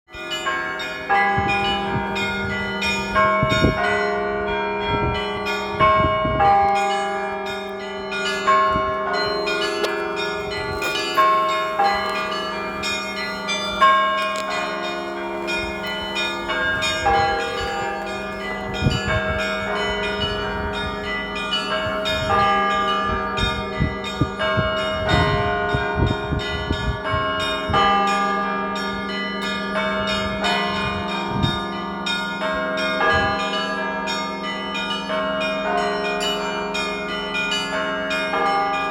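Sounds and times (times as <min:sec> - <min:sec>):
large bell hum: 0:00.1 - 0:38.9
small church bells ringing: 0:00.1 - 0:38.9.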